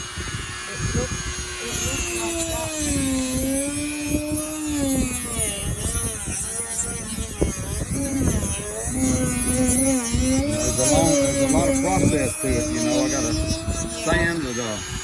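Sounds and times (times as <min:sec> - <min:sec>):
electric sander on wood: 0:00.0 - 0:15.0.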